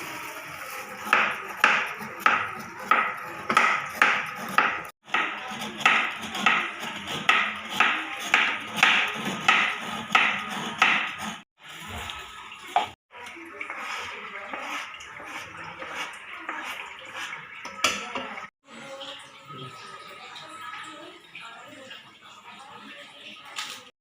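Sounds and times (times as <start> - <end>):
rhythmic kitchen strokes: 0.0 - 24.0.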